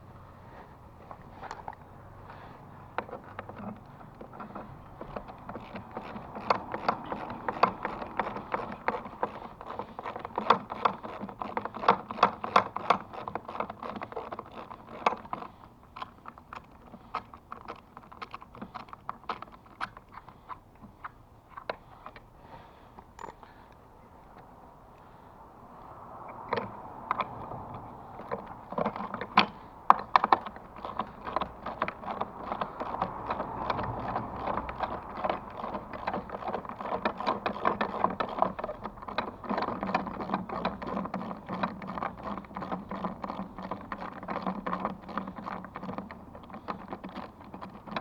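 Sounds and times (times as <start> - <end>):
rapid irregular clicking: 1.0 - 22.3, 26.3 - 48.0.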